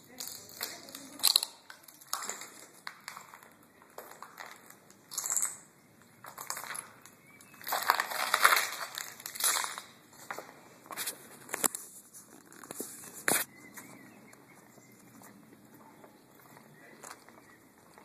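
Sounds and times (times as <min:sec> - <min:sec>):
clicks and rustles: 0:00.0 - 0:15.4
footsteps crunching over debris: 0:00.1 - 0:18.0.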